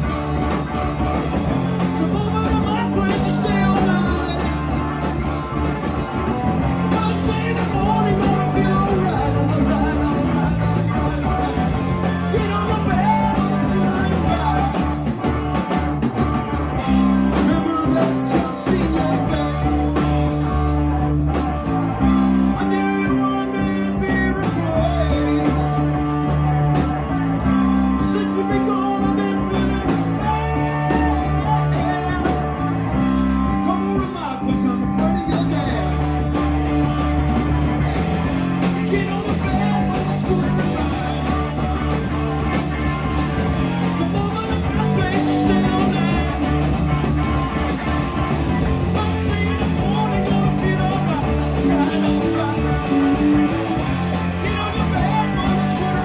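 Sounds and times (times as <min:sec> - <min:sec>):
person singing: 0:00.0 - 0:15.5, 0:16.8 - 0:21.0, 0:22.0 - 0:56.0
rock band playing: 0:00.0 - 0:56.0.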